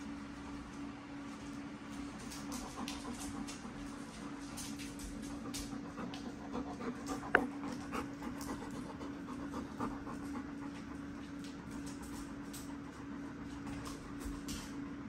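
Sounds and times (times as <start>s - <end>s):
steady low hum: 0.0s - 15.0s
dog panting: 2.1s - 14.5s.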